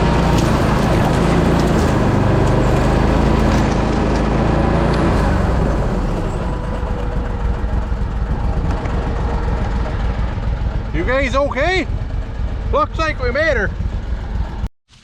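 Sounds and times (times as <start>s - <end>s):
vehicle engine running hard: 0.0s - 14.7s.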